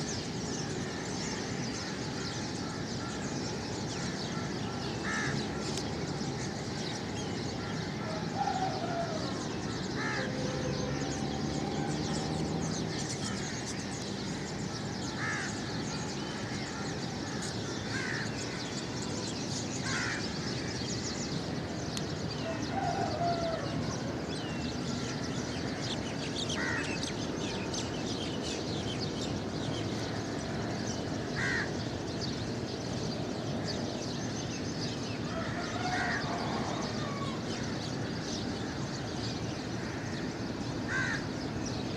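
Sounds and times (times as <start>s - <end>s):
flock of birds chattering: 0.0s - 41.9s.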